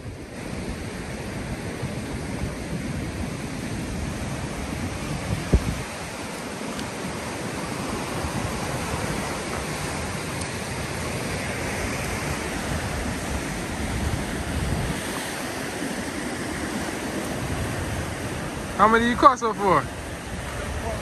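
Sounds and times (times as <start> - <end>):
surf washing against rocks: 0.0 - 21.0
wind on microphone: 0.0 - 21.0.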